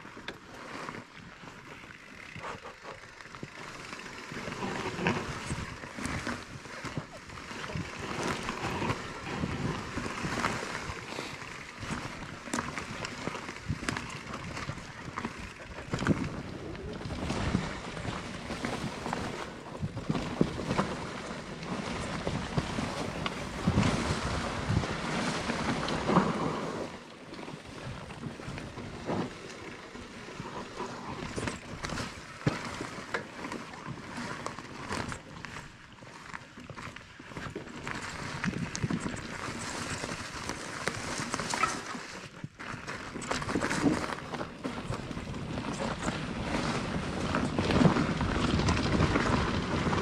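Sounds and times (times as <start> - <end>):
bike rattling over bumps: 0.0 - 50.0
bike tyres on dirt and stones: 0.0 - 50.0
wind on microphone: 4.4 - 33.2, 37.3 - 41.9, 43.2 - 50.0.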